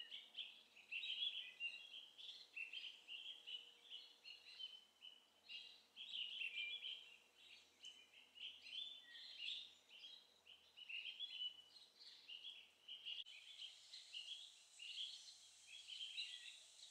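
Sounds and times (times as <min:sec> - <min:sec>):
songbirds twittering: 0:00.0 - 0:16.9.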